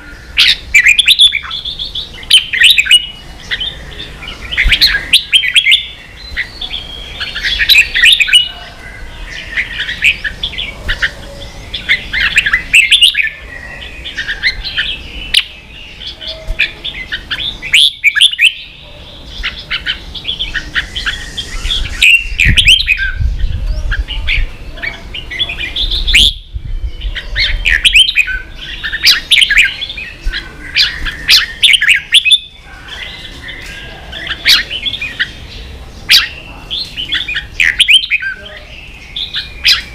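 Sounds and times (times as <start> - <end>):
bird singing fast chirps: 0.0 - 39.9.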